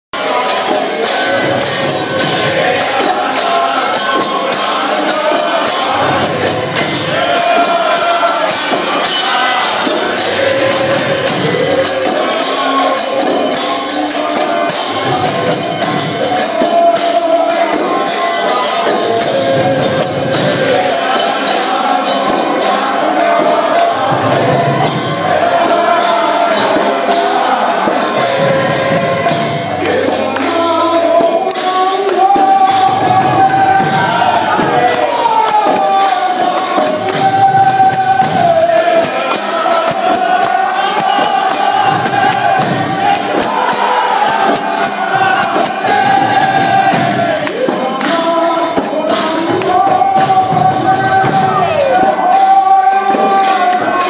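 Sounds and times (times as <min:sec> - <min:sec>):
hand drum: 0:00.2 - 0:54.0
many voices singing together: 0:00.2 - 0:54.0
small hand cymbals clashing: 0:00.2 - 0:54.0.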